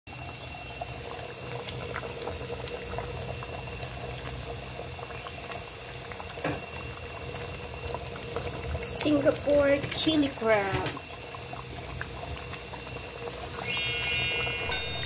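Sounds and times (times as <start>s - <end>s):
water boiling hard in pot: 0.1s - 15.0s.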